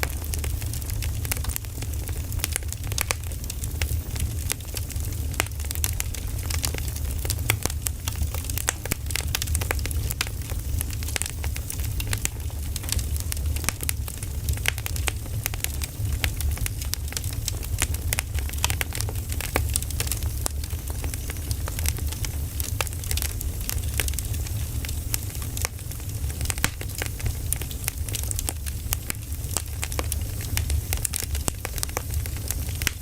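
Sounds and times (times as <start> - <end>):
firewood crackling and popping: 0.0 - 33.0.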